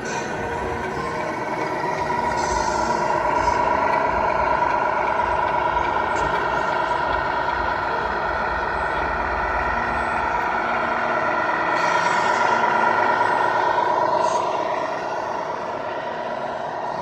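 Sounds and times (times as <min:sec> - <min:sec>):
model truck motor whining: 0:00.0 - 0:17.0.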